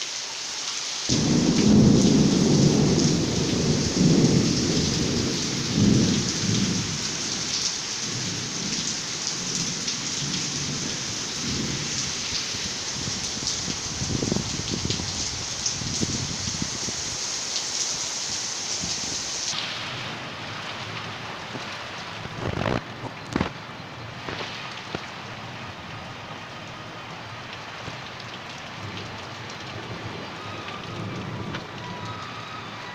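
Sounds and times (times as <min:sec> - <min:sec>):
heavy rain: 0:00.0 - 0:32.9.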